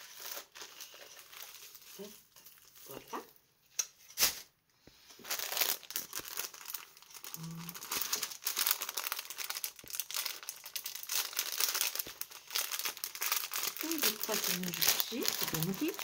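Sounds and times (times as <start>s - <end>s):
plastic packaging crinkling: 0.0s - 3.4s, 5.1s - 16.0s.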